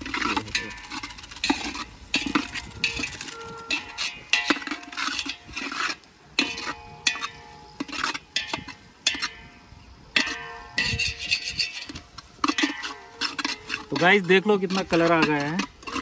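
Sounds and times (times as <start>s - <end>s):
metal spatula scraping a pan: 0.0s - 9.6s, 10.2s - 16.0s.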